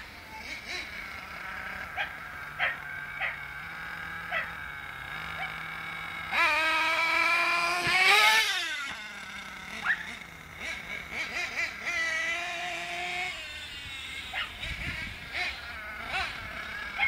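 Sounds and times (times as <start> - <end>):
rc car engine screaming: 0.0 - 17.0.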